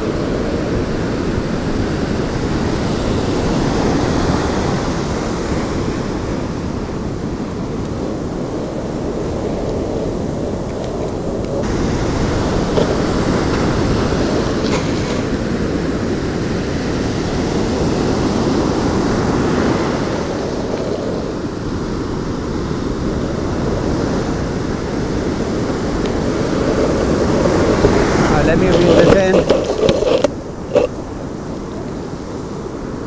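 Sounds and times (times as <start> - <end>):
ocean surf: 0.0 - 33.0
wind: 0.0 - 33.0.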